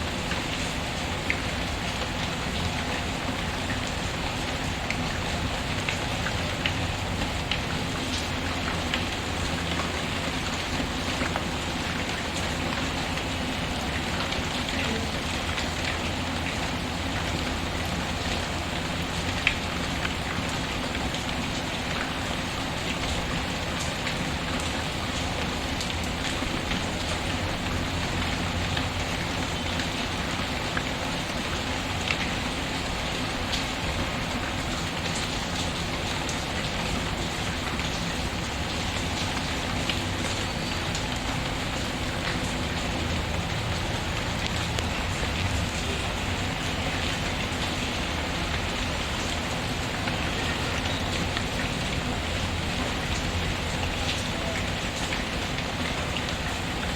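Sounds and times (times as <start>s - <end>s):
rain patter: 0.0s - 56.9s.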